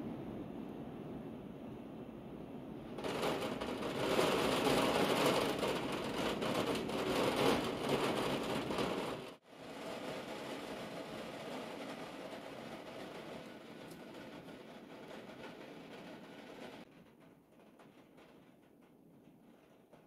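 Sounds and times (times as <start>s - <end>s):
steady rain hiss: 0.0s - 16.9s.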